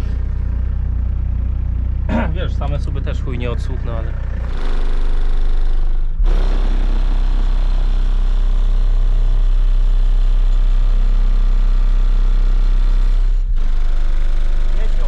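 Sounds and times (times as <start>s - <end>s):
deep subwoofer bass tone: 0.0s - 15.0s.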